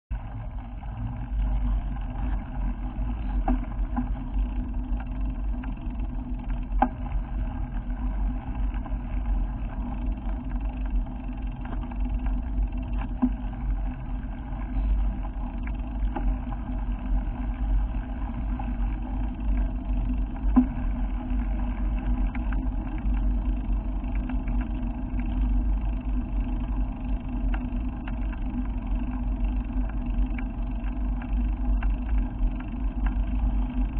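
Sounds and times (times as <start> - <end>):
vehicle engine and road rumble: 0.1 - 33.9.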